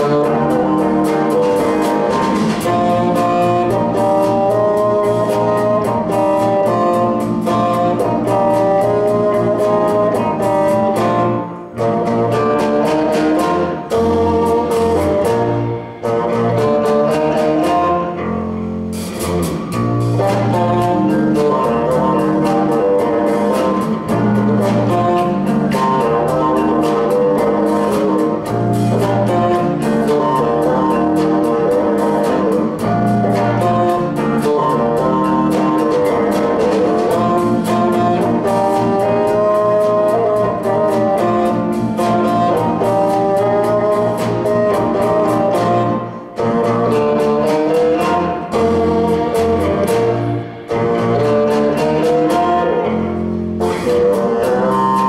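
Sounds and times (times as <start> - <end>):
bassoon: 0.0 - 55.0
drum kit: 0.0 - 55.0
electric bass: 0.0 - 55.0
electric guitar: 0.0 - 55.0.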